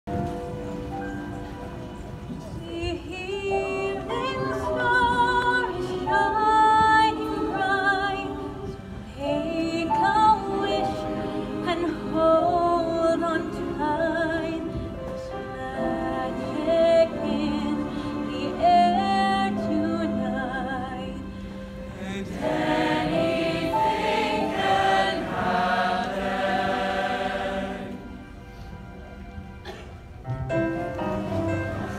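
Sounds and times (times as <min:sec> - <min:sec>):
music: 0:00.0 - 0:31.9.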